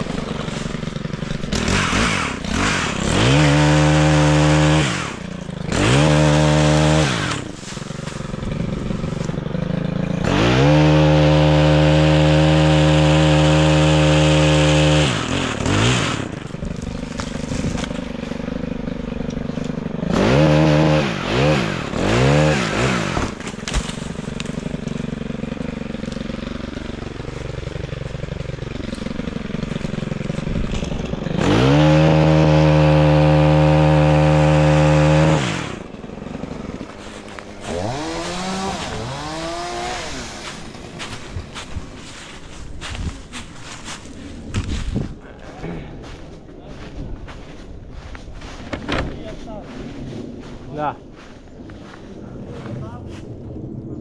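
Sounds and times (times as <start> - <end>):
chainsaw revving and idling: 0.0 - 53.2.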